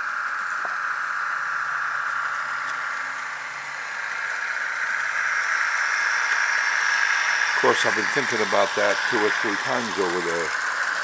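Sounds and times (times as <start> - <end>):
diesel engine sound from small speaker: 0.0 - 11.0.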